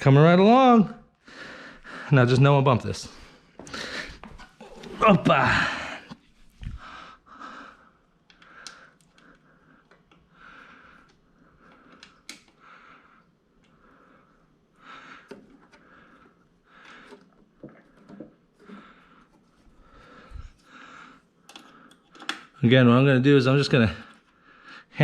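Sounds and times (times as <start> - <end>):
person breathing: 1.2 - 2.2, 3.1 - 22.4, 24.0 - 25.0.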